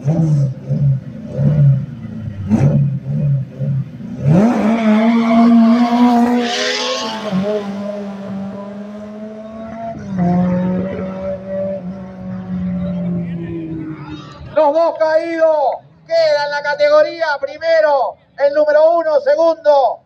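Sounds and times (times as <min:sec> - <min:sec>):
race car engines revving: 0:00.0 - 0:17.1.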